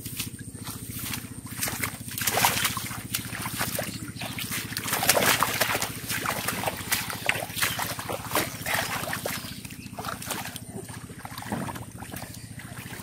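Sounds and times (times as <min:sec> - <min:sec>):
low hum: 0:00.0 - 0:13.0
splashing in muddy water: 0:00.0 - 0:13.0.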